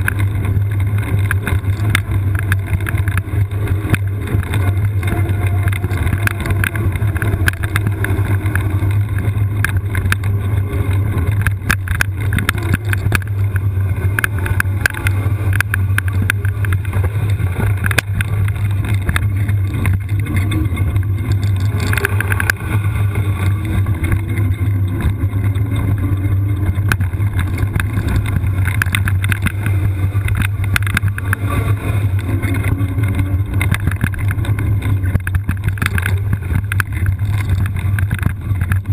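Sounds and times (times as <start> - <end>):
frame and wheels rattling: 0.0 - 38.9
wheelchair rolling rumble: 0.0 - 38.9.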